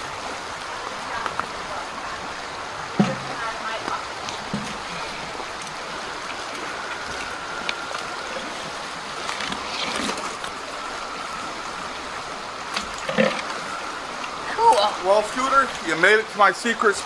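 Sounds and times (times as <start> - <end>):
flowing water: 0.0 - 17.0.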